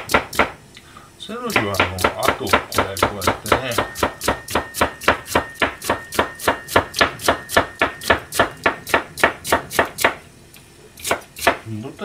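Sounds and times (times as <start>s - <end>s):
knife chopping on cutting board: 0.0s - 0.6s, 1.5s - 10.2s, 11.0s - 11.7s.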